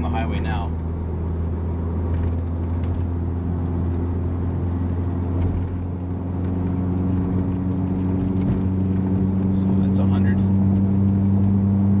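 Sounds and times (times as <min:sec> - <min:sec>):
car engine pulling: 0:00.0 - 0:12.0
road noise: 0:00.0 - 0:12.0.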